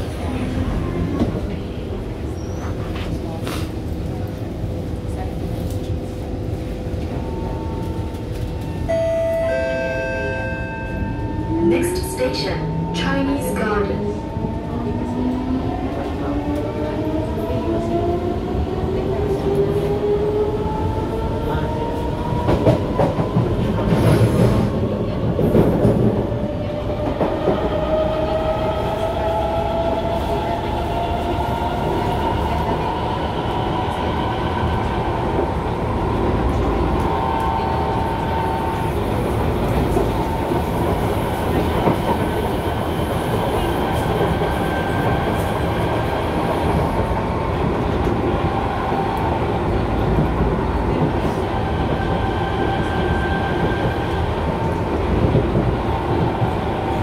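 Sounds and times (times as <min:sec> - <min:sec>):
wheels rumbling on rails: 0:10.8 - 0:57.0.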